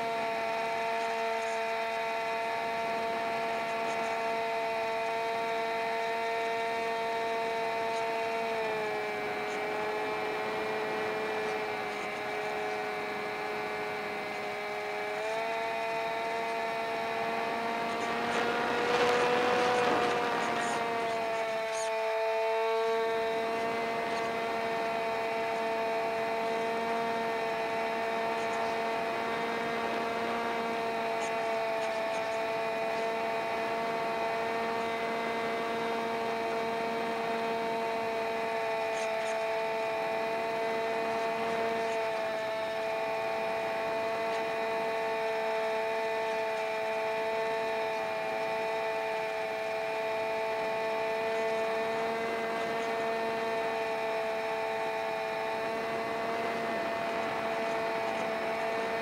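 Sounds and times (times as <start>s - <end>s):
electric motor and propeller whine: 0.0s - 59.0s.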